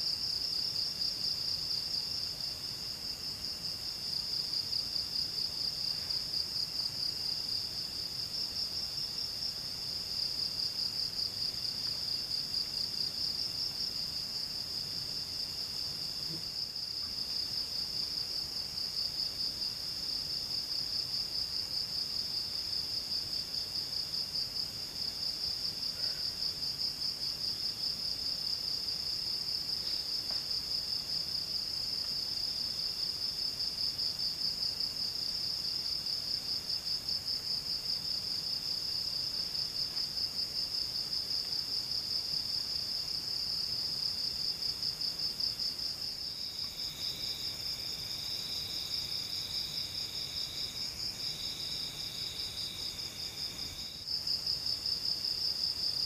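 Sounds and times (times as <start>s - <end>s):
faint insect call: 0.0s - 56.0s.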